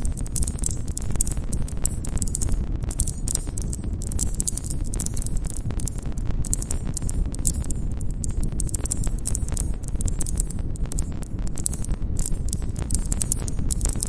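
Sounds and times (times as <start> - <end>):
campfire crackling and popping: 0.0 - 14.0
low rumble of flames: 0.0 - 14.0.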